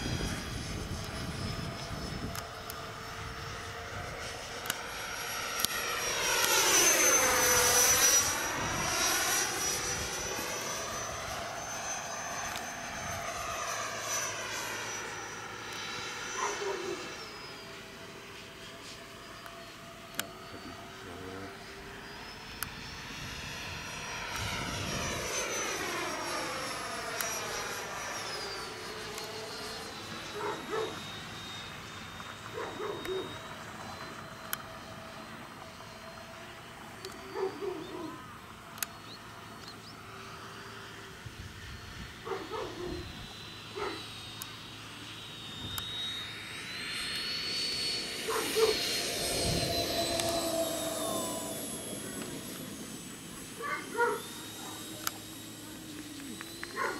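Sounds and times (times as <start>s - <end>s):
model jet whine: 0.0s - 56.9s.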